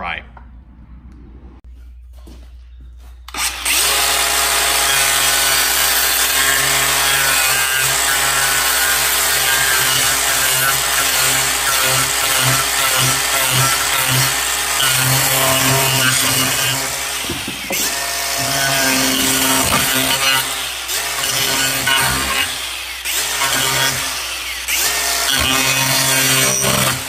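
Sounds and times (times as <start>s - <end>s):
angle grinder motor whining: 3.3s - 27.0s.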